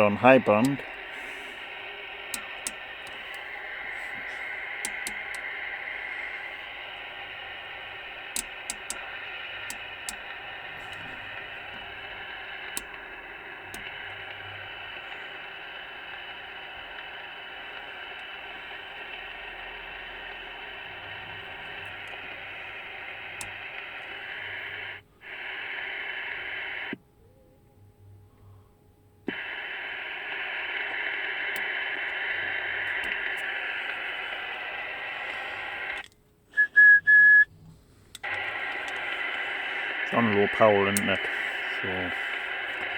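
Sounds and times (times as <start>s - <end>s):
radio speaker hiss: 0.0s - 27.0s, 29.3s - 42.9s
radio whistle: 0.0s - 27.0s, 29.3s - 37.5s, 38.2s - 42.9s.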